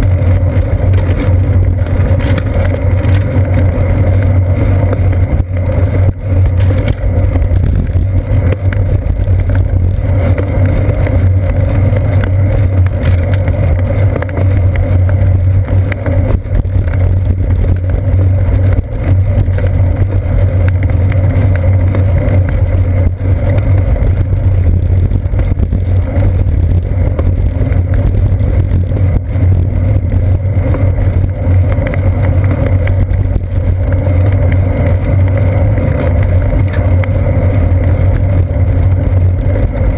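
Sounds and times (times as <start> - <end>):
bicycle road rumble: 0.0 - 39.9
constant low hum: 0.0 - 39.9
wind rush: 0.0 - 39.9.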